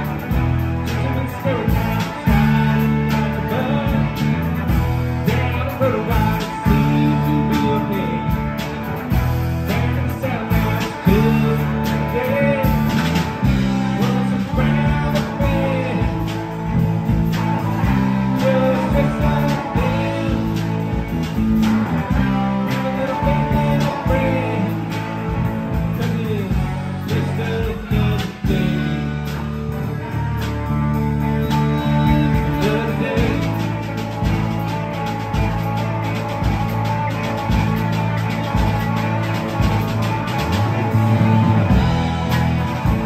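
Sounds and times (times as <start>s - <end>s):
bass guitar: 0.0s - 43.0s
drum kit beat: 0.0s - 43.0s
electric guitars: 0.0s - 43.0s
live rock band: 0.0s - 43.0s.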